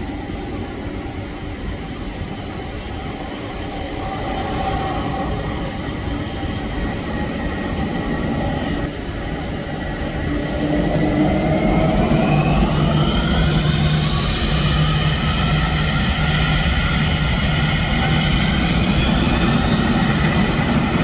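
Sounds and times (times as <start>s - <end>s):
jet engines whining: 3.2s - 21.0s.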